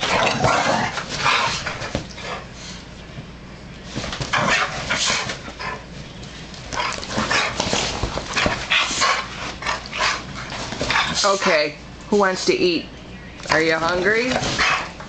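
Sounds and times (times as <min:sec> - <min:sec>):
dogs play-fighting: 0:00.0 - 0:11.8, 0:13.8 - 0:15.0.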